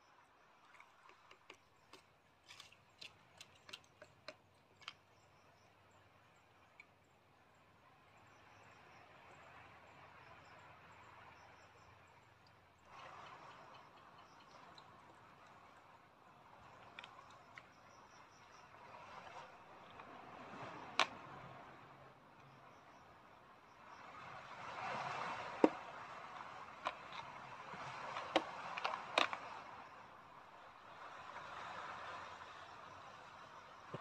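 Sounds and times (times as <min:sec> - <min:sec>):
faint outdoor night hiss: 0:00.0 - 0:34.0.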